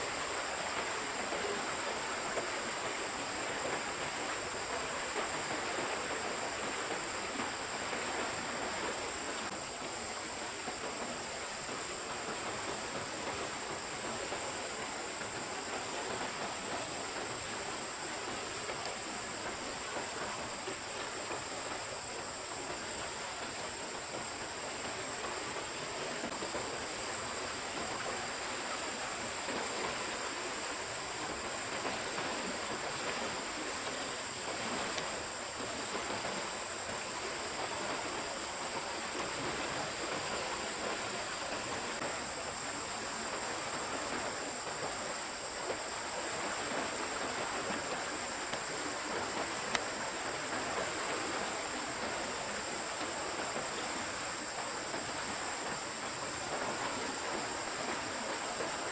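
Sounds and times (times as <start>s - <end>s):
stream water running: 0.0s - 58.9s.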